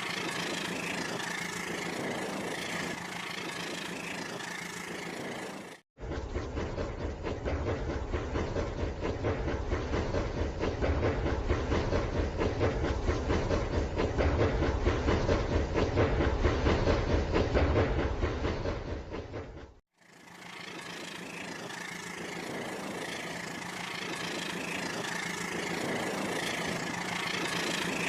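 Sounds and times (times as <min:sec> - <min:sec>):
motor hum: 0:00.0 - 0:28.0.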